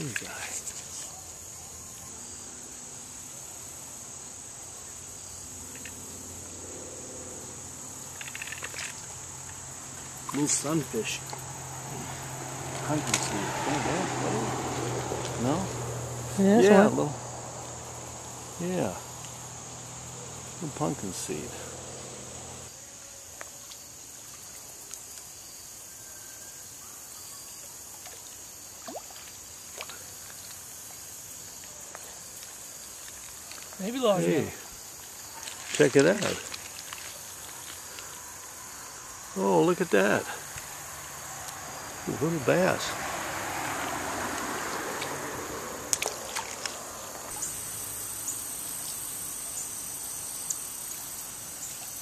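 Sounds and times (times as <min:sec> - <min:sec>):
creek water trickling: 0:00.0 - 0:22.7, 0:23.3 - 0:25.8, 0:26.8 - 0:52.0
crickets droning: 0:00.0 - 0:52.0.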